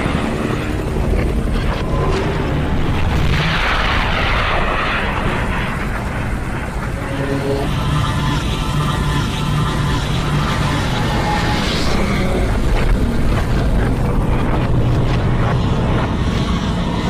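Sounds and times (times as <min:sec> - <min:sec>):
jet and rocket thruster rush: 0:00.0 - 0:17.0
steady low rumble: 0:00.0 - 0:17.0.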